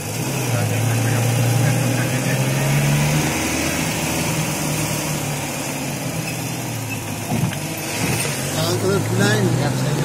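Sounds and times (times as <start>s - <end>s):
car engine hum: 0.0s - 10.0s
road noise inside car: 0.0s - 10.0s.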